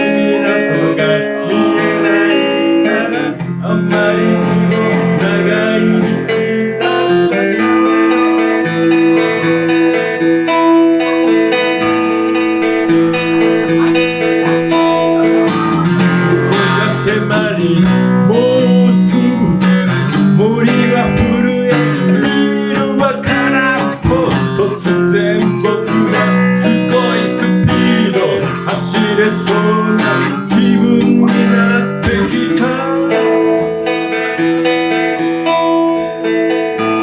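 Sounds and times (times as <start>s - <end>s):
electric guitar playing: 0.0s - 37.0s.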